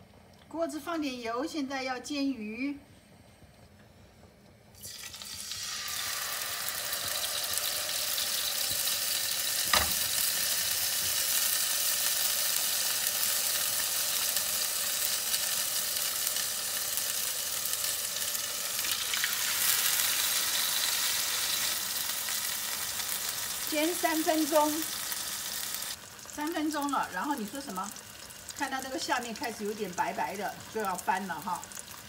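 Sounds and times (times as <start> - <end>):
fish sizzling in frying pan: 4.8 - 32.0.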